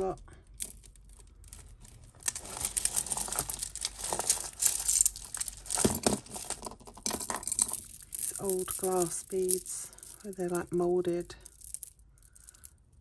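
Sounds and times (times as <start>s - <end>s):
jewellery clicking and clattering: 0.4s - 13.0s.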